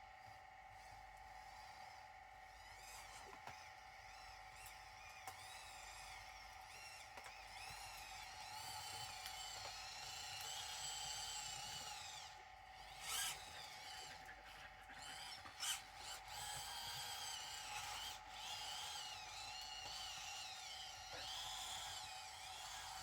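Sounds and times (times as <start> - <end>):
small electric motor whine: 0.0 - 23.0.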